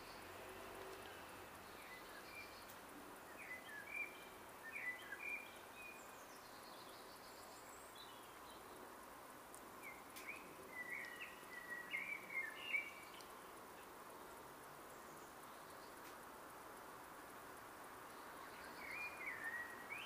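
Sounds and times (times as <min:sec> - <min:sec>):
small birds chirping: 0:00.0 - 0:16.3, 0:17.9 - 0:20.0
faint background hiss: 0:00.0 - 0:20.0.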